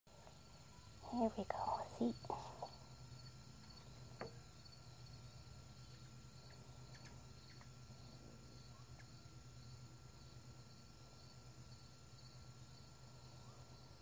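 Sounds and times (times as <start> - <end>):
crickets chirring: 0.1 - 14.0.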